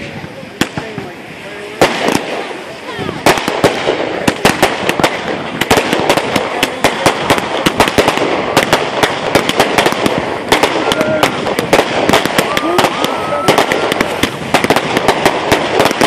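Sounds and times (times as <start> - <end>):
firework fountain hissing: 0.0 - 16.0
fireworks popping and crackling: 0.0 - 16.0.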